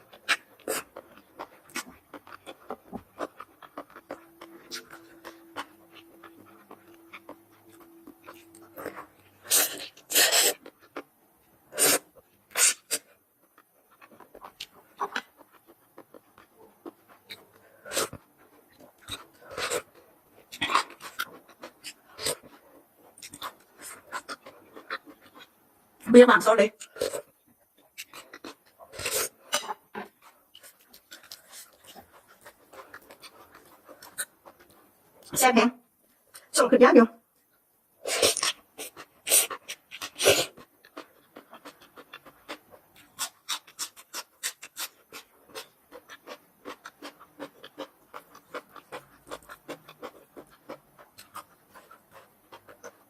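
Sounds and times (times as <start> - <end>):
person chewing and lip-smacking: 0.0 - 11.1, 11.7 - 25.5, 26.8 - 35.3, 38.0 - 53.0.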